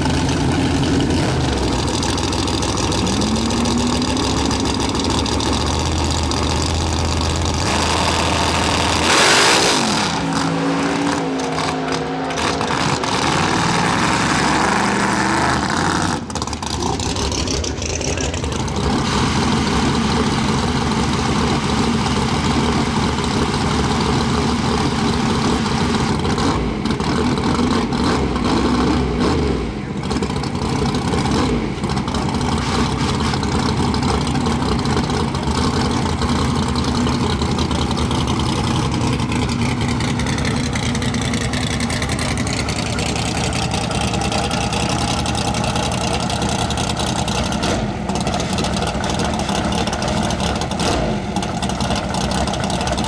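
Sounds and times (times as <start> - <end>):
drag racing car engines: 0.0 - 53.0.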